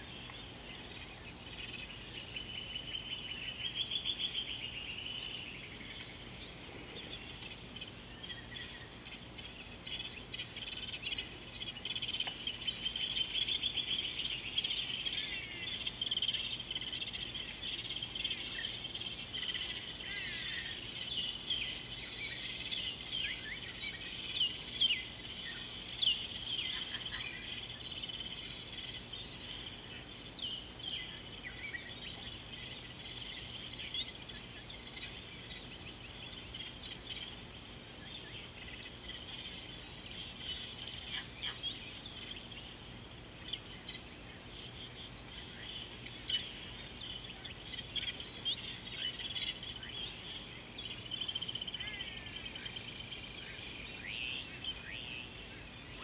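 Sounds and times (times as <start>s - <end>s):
birds chirping and whistling: 0.0s - 42.8s, 43.4s - 56.0s
insects humming: 0.0s - 56.0s.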